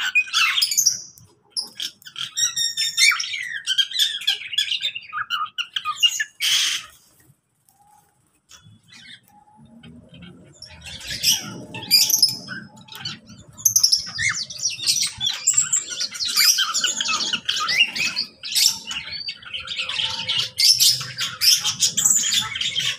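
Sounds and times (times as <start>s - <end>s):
caged birds chirping and squawking: 0.0s - 22.9s.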